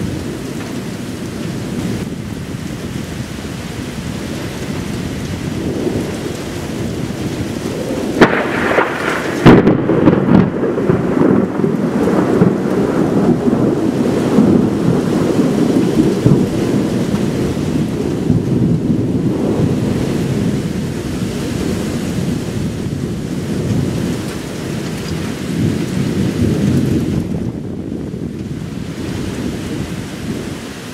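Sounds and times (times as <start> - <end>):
thunder rumbling and cracking: 0.0 - 30.9.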